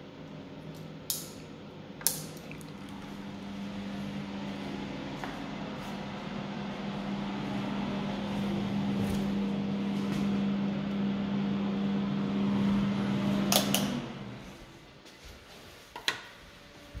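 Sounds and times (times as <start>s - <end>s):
machine hum: 0.0s - 15.1s.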